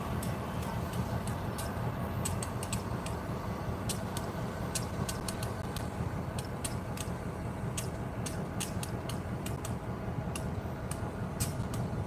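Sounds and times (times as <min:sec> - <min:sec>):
road traffic rumble: 0:00.0 - 0:12.0
sharp ticks: 0:00.1 - 0:03.2, 0:03.8 - 0:12.0.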